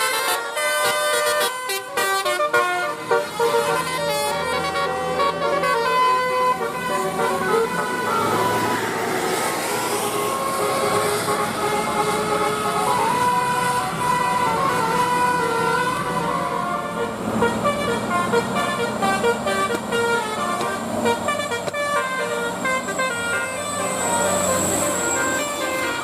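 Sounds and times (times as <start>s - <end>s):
multi-tone bus horn tune: 0.0s - 26.0s.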